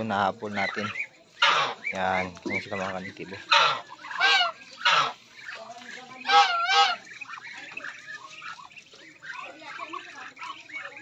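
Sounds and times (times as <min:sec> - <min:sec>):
poultry calling: 0:00.0 - 0:11.0.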